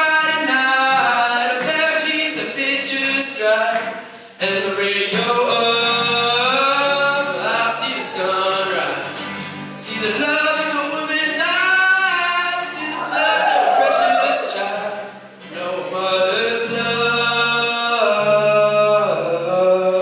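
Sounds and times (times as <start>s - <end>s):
vocal group singing a cappella: 0.0s - 9.1s, 9.8s - 20.0s.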